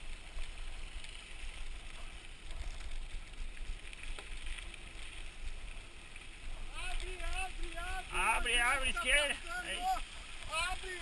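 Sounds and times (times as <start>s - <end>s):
bike tyres crunching on dirt: 0.0s - 11.0s.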